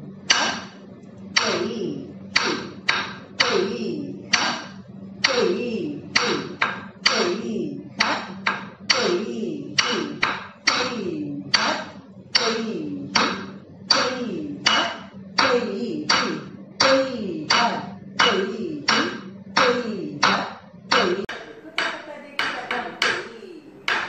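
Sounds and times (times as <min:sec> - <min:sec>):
chanted syllables: 0:00.3 - 0:24.0.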